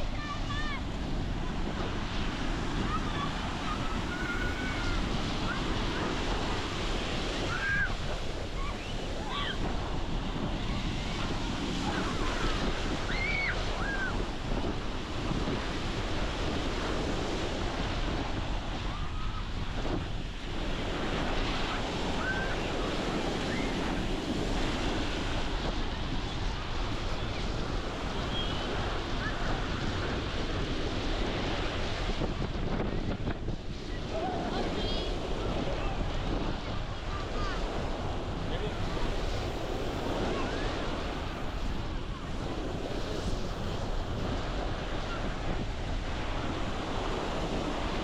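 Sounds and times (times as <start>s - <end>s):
ocean surf breaking: 0.0s - 48.0s
wind buffeting microphone: 0.0s - 48.0s.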